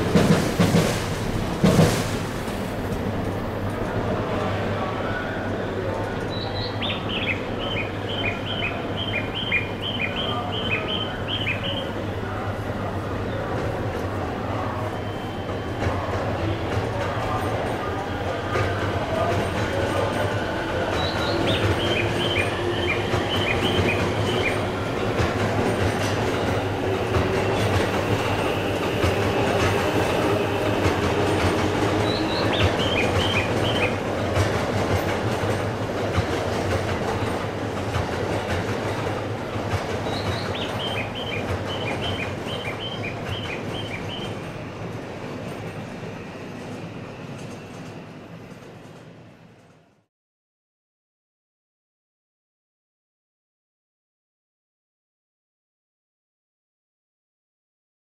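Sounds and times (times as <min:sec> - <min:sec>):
train wheels rumbling on rails: 0:00.0 - 0:50.1.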